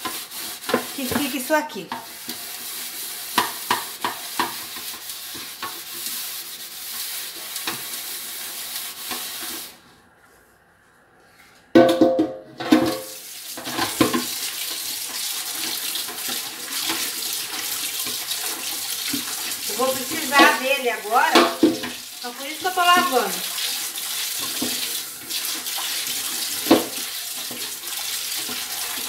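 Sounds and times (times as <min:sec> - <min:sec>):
sponge scrubbing a metal pot: 0:00.0 - 0:09.8, 0:12.7 - 0:29.0
tap water running into pot: 0:00.0 - 0:09.8, 0:12.6 - 0:29.0.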